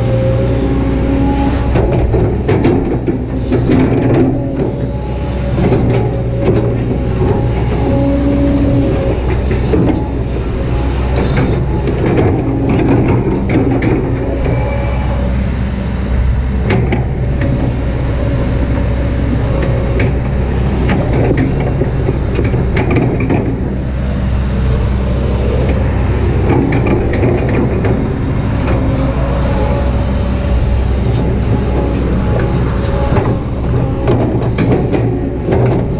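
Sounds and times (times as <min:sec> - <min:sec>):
excavator diesel engine running: 0:00.0 - 0:35.9
excavator bucket clanks and scrapes: 0:01.3 - 0:35.9.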